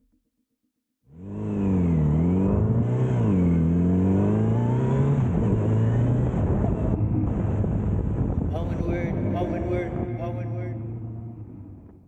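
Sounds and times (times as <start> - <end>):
engine revving: 1.1 - 12.0.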